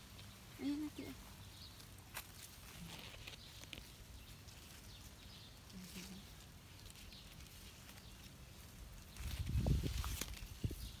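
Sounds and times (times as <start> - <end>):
rustling leaves and twigs: 0.0 - 11.0.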